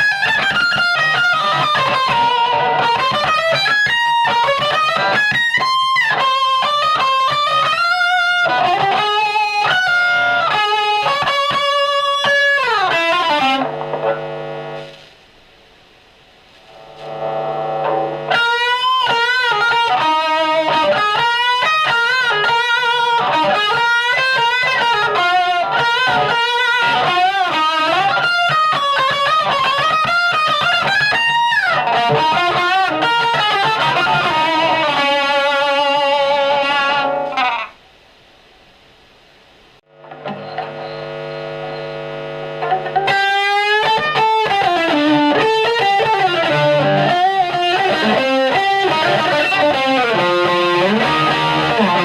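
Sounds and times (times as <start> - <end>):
electric guitar lead playing: 0.0 - 15.1, 16.6 - 37.8, 39.9 - 52.0
amplifier hum: 0.0 - 52.0.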